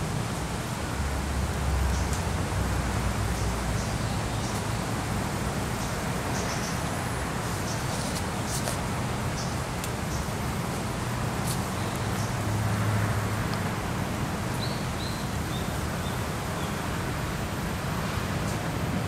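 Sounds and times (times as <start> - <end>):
distant traffic rumble: 0.0 - 19.0.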